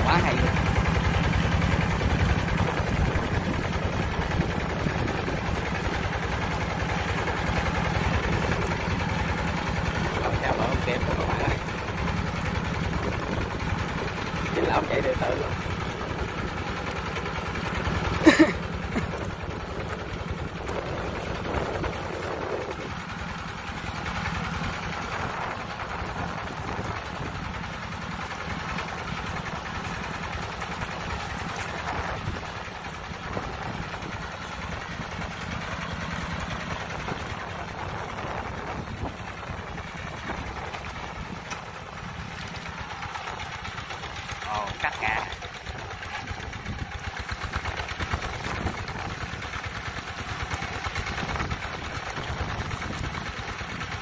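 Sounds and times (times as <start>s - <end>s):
hand tiller engine running: 0.0s - 54.0s.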